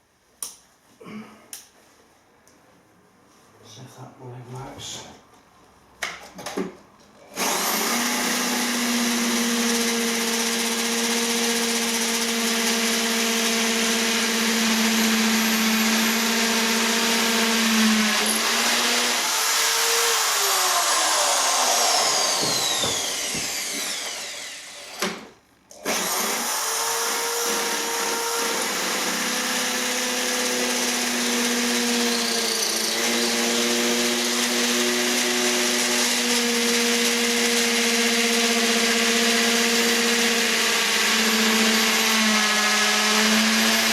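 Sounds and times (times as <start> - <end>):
hammer drill whining: 7.3 - 43.9.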